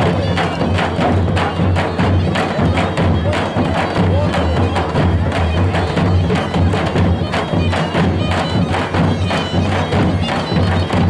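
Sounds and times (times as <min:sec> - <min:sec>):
reedy wind instrument melody: 0:00.0 - 0:11.0.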